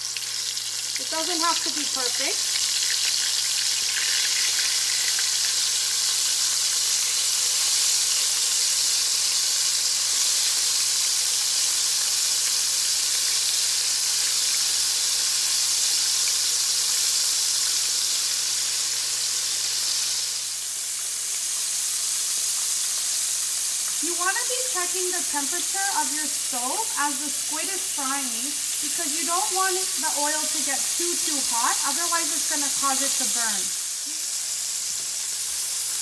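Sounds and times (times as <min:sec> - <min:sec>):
squid frying in hot oil: 0:00.0 - 0:36.0.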